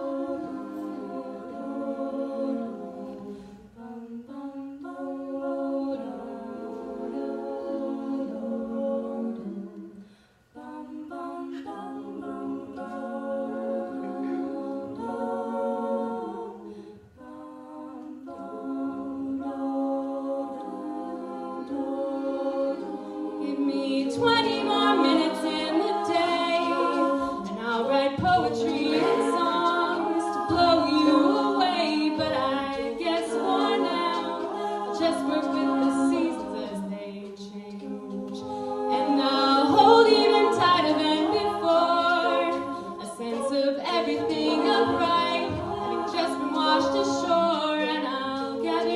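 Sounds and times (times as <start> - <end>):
a cappella choral singing: 0.0 - 48.9.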